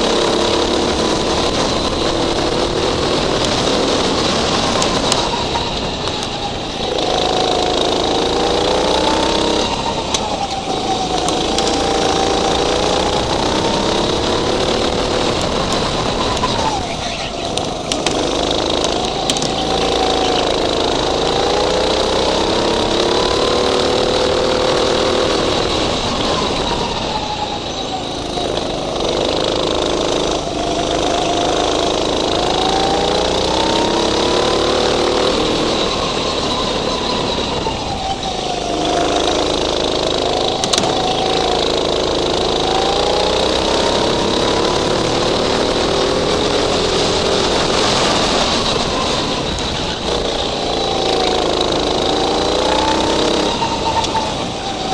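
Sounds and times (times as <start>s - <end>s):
go-kart engine revving: 0.0s - 54.9s
high whine: 0.0s - 54.9s.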